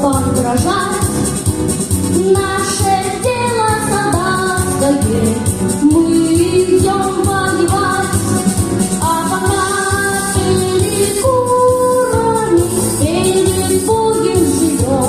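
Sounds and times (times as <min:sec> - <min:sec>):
woman singing: 0:00.0 - 0:01.1, 0:02.1 - 0:15.0
backing track with steady beat: 0:00.0 - 0:15.0.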